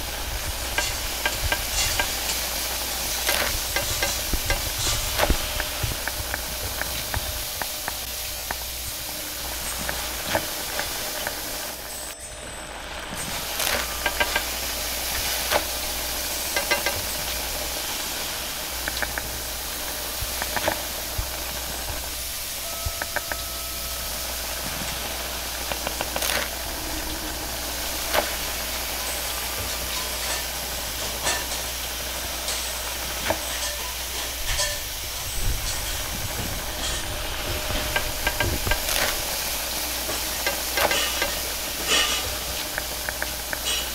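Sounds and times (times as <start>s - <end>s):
noodles sizzling in wok: 0.0s - 43.9s.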